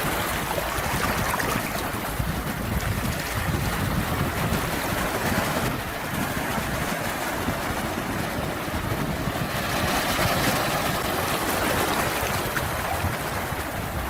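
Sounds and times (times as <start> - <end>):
sea waves washing in: 0.0 - 14.0.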